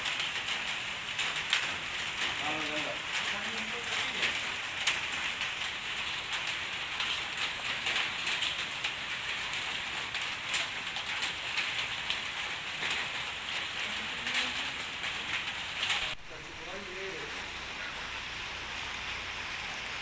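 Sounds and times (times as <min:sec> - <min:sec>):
raindrops hitting close by: 0:00.0 - 0:20.0
steady rain falling: 0:00.0 - 0:20.0.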